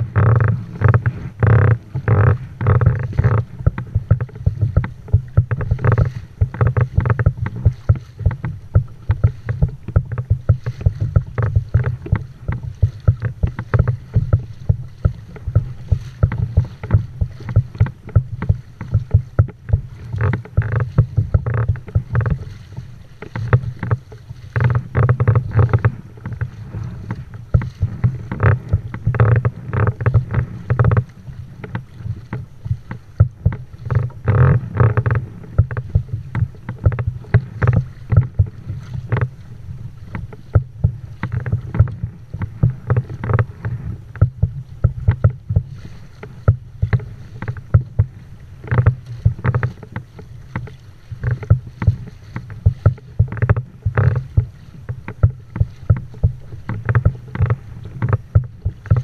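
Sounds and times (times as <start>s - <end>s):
water slapping against kayak bow: 0.0s - 59.0s
wind rumble on microphone: 0.0s - 59.0s.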